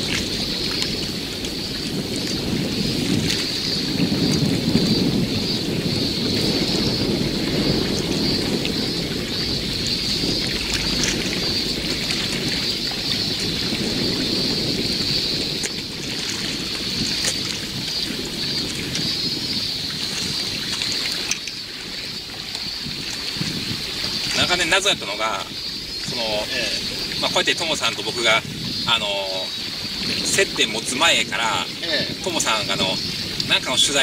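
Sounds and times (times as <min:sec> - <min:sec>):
waves washing on rocks: 0:00.0 - 0:34.0
wind on microphone: 0:00.0 - 0:34.0.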